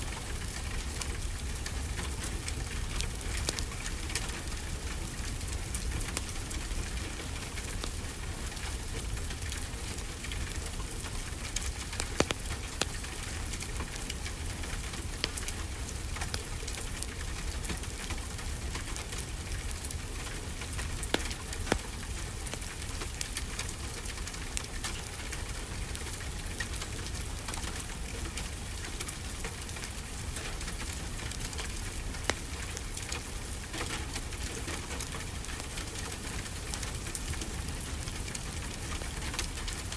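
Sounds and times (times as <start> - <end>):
fireplace fire crackling: 0.0 - 39.9
steady rainfall: 0.0 - 39.9.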